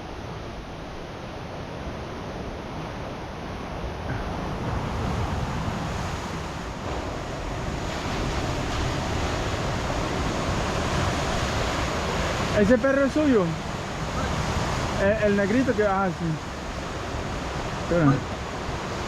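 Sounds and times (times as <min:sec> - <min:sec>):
sea surf washing: 0:00.0 - 0:19.0.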